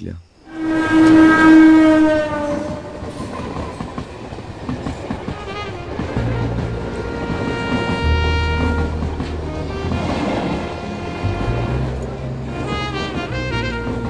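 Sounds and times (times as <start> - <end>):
train horn blaring: 0.4 - 3.5, 5.0 - 14.0
train clattering on rails: 1.0 - 14.0.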